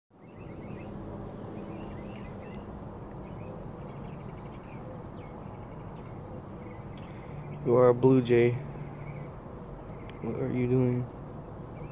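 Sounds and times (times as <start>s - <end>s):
birds chirping and twittering: 0.1s - 11.9s
low background hum: 0.2s - 11.9s.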